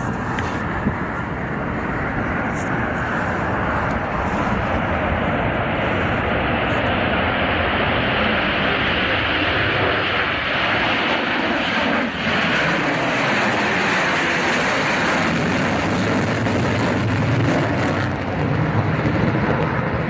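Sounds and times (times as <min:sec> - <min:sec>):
loud jet roar: 0:00.0 - 0:20.0.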